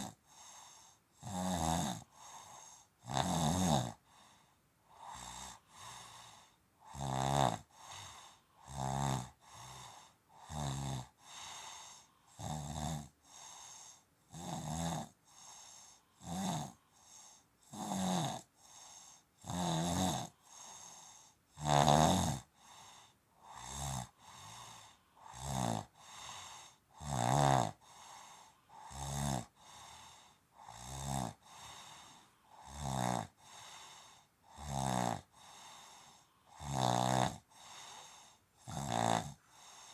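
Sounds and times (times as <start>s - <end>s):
rasping snoring: 0.0s - 4.3s, 5.0s - 39.9s.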